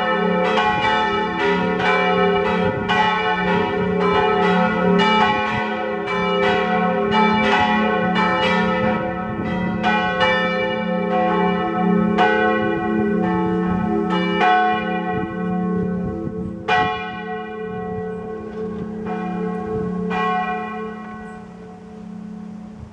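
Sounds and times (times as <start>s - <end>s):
church bells ringing: 0.0s - 22.9s.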